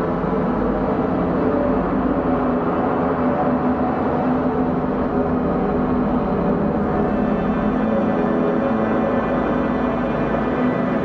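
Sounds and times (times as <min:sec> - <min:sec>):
dark ambient synthesizer drone: 0:00.0 - 0:11.0.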